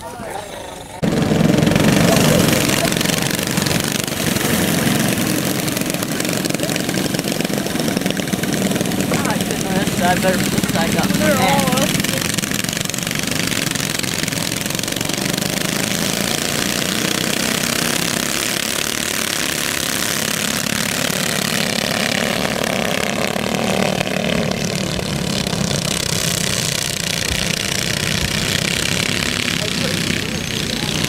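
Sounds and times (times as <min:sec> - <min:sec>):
go-kart engines racing: 0:00.0 - 0:31.0.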